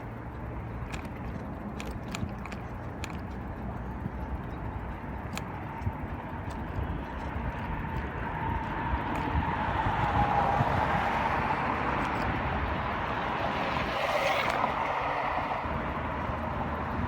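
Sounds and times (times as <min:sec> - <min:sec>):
passing vehicle: 0:00.0 - 0:17.0
road traffic noise: 0:00.0 - 0:17.0
wind rumbling on microphone: 0:00.0 - 0:17.0.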